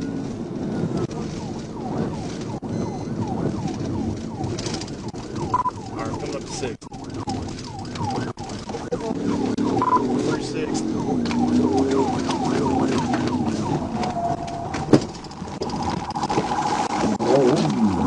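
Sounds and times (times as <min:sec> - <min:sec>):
police siren yelping: 0:00.7 - 0:18.0.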